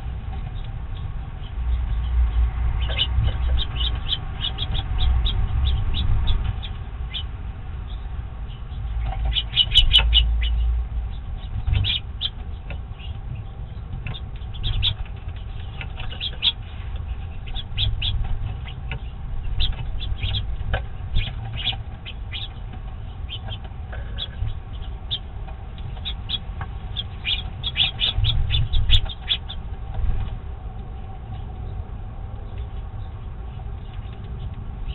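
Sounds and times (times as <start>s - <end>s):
finches chirping: 0.4s - 34.9s.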